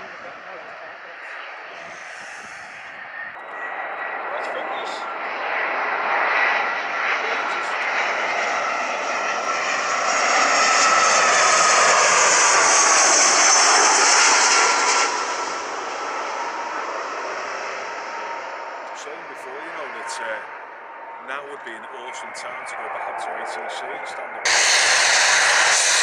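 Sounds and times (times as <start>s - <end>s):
airliner engines passing: 0.0s - 26.0s.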